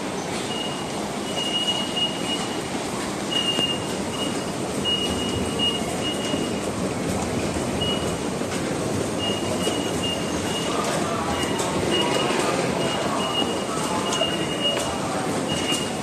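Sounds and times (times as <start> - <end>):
commuter crowd din: 0.0 - 16.0
rail traffic: 0.0 - 16.0.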